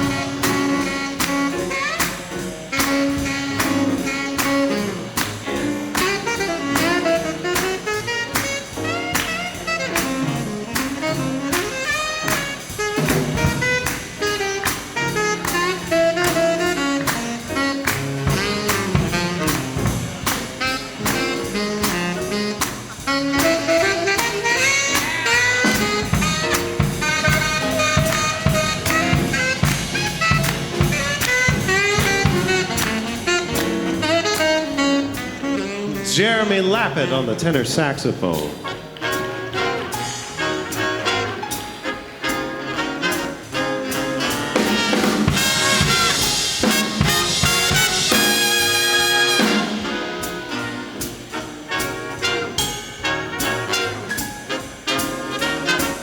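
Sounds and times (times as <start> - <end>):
horns playing together: 0.0 - 56.0
swinging drums and rhythm section: 0.0 - 56.0
tenor saxophone solo: 0.0 - 56.0.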